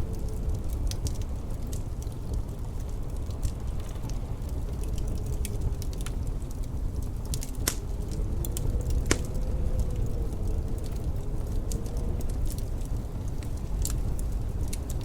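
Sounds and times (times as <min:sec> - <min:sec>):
blizzard wind rumbling: 0:00.0 - 0:15.0
fire popping: 0:00.0 - 0:15.0
wind howling: 0:00.0 - 0:15.0
wood fire crackling: 0:00.0 - 0:15.0.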